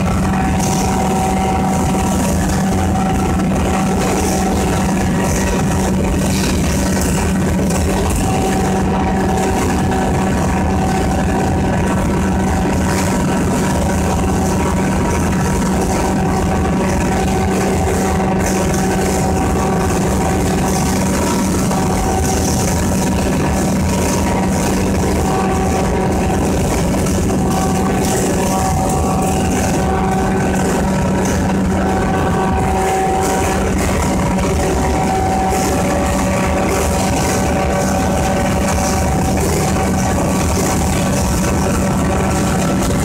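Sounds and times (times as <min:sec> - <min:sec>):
faint high machine whine: 0:00.0 - 0:43.0
grinding mill machine drone: 0:00.0 - 0:43.0.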